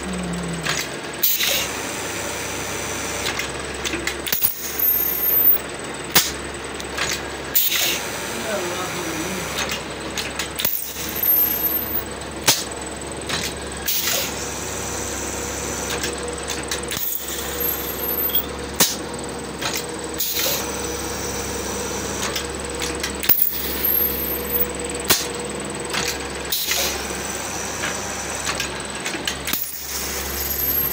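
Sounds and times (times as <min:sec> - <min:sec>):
steady motor hum: 0:00.0 - 0:30.9.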